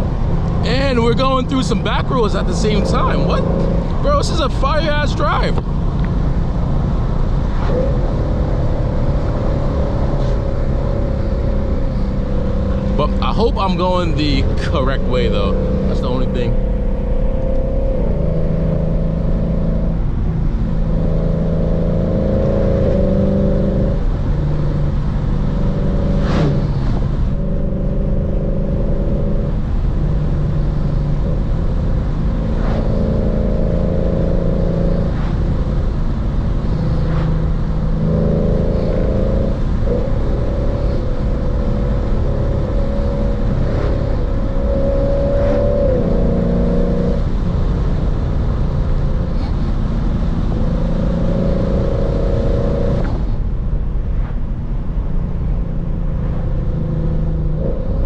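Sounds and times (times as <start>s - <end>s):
car engine and exhaust: 0.0s - 58.0s.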